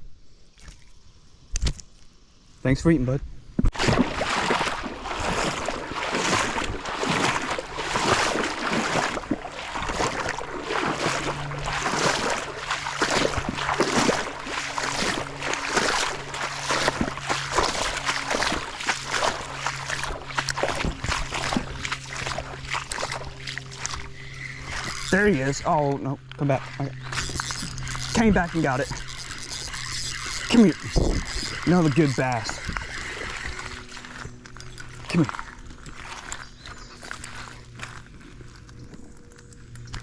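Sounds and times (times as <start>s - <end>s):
creek water splashing: 3.7s - 40.0s.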